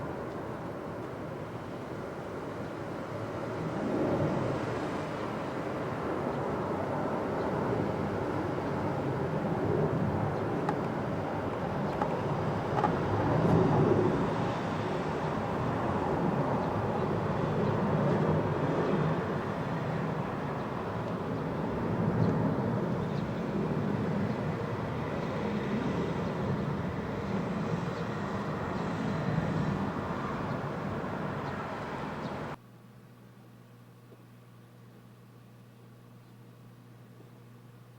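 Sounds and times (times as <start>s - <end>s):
jet aircraft rumble: 0.0s - 32.6s.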